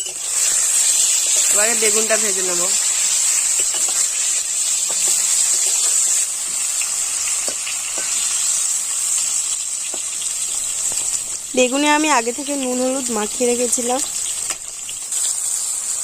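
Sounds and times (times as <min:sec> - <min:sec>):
hot oil sizzling: 0:00.0 - 0:16.0.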